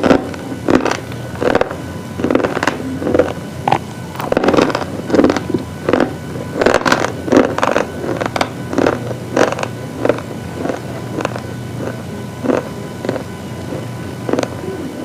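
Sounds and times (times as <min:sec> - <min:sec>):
brittle material crunching in chewing: 0:00.0 - 0:14.6.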